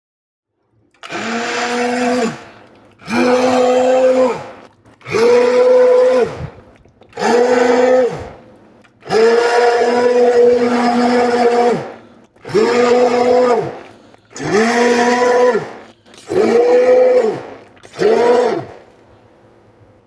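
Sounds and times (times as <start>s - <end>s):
blender motor whining: 1.0s - 19.1s.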